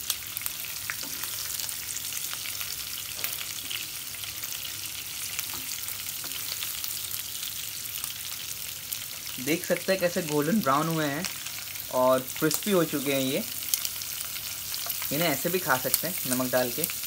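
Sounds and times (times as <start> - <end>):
prawns sizzling in hot oil: 0.0 - 17.0.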